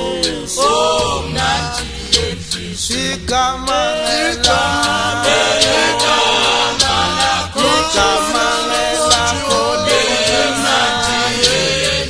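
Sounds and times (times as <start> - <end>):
man singing lead: 0.0 - 11.7
choir singing in harmony: 0.0 - 12.0.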